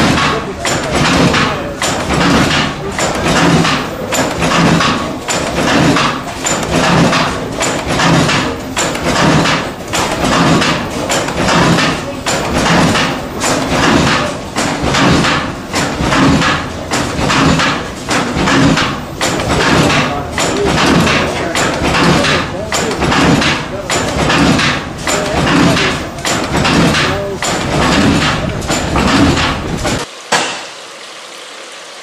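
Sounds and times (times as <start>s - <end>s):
stationary engine slow heavy beat: 0.0s - 30.8s.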